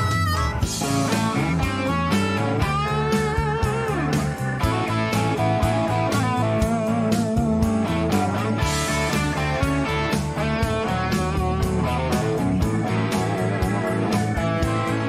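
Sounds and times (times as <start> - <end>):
rock guitar with bent notes: 0.0 - 15.0
steady drum beat: 0.0 - 15.0.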